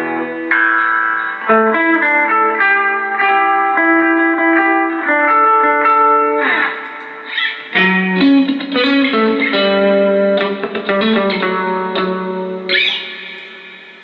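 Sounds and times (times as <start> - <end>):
electric guitar notes and chords: 0.0 - 14.0.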